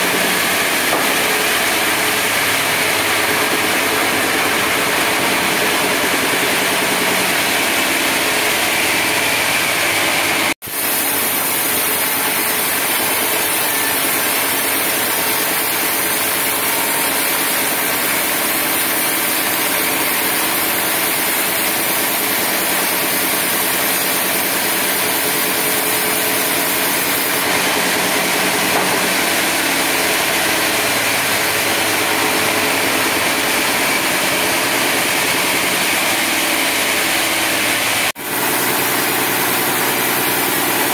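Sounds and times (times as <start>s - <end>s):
band saw running: 0.0s - 40.9s.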